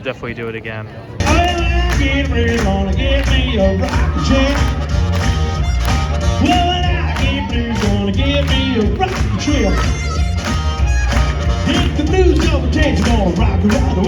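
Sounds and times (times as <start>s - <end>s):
heavy bass beat: 1.2s - 14.0s
live blues band playing: 1.2s - 14.0s
singing lead line: 1.2s - 14.0s.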